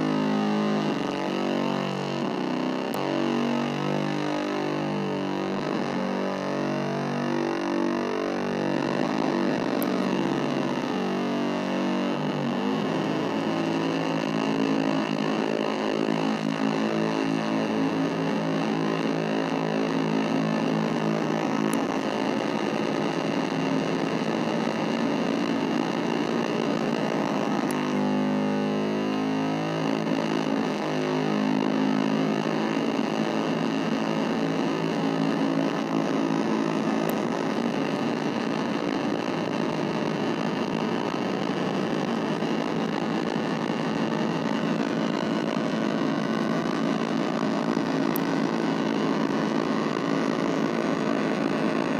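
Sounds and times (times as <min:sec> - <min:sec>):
distorted buzzing synthesizer drone: 0:00.0 - 0:51.9.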